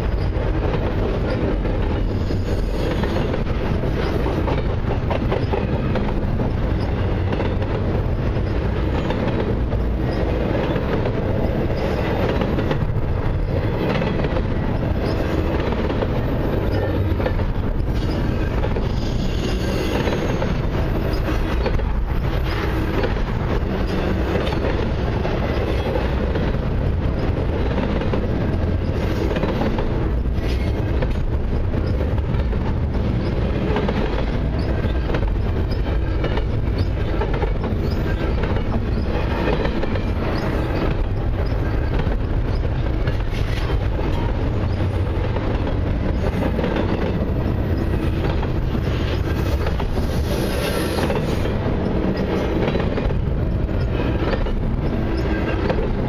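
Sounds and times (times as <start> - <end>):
train wheels rumbling on rails: 0.0 - 56.0
wheels clicking over rail joints: 0.0 - 56.0.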